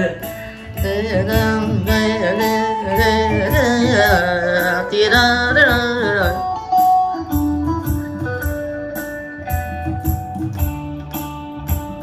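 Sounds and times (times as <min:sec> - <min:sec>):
keyboard drum and bass accompaniment: 0:00.0 - 0:12.0
keyboard lead melody: 0:00.0 - 0:12.0.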